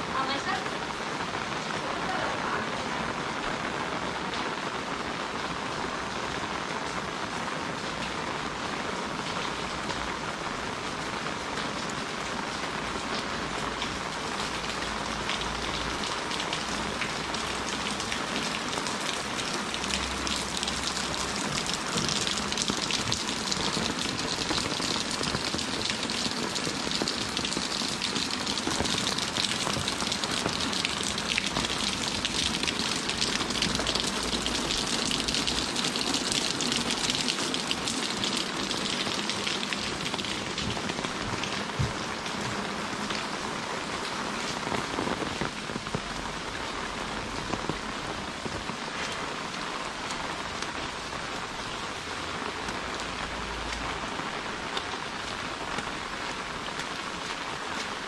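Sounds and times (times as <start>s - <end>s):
heavy rain on paving and foliage: 0.0s - 58.0s.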